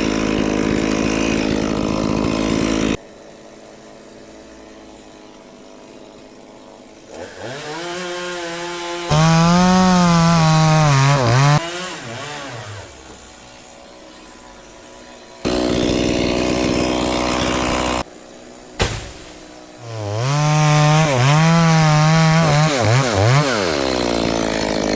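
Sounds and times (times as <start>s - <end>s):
chainsaw idling: 0.0s - 18.6s, 19.3s - 24.9s
chainsaw cutting wood: 0.0s - 24.9s.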